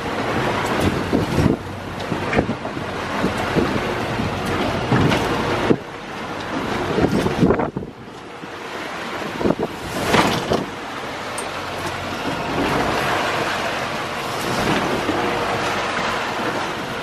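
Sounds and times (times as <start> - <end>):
choppy sea water rushing: 0.0 - 17.0
wind buffeting microphone: 0.0 - 17.0.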